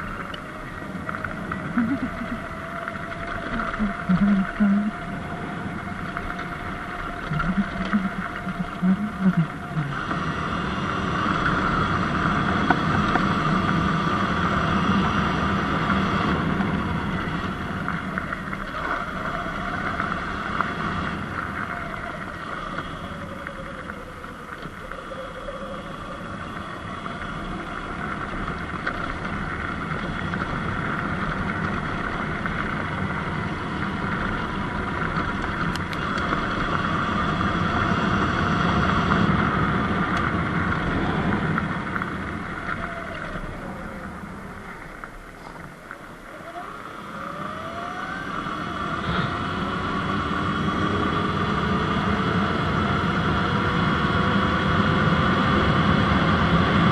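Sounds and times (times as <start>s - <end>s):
electric motor whine: 0.0s - 56.9s
wind and tyre noise: 0.0s - 56.9s.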